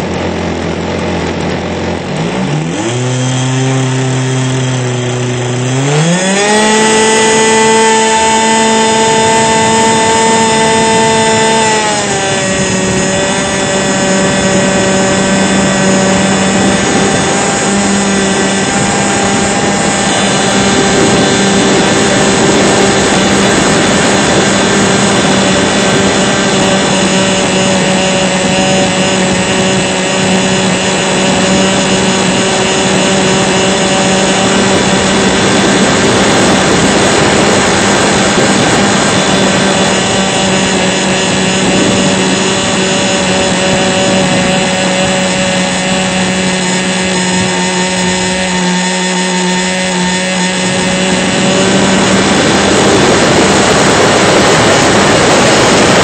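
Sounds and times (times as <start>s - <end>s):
model airplane motor and propeller: 0.0s - 56.0s
wind rush: 0.0s - 56.0s.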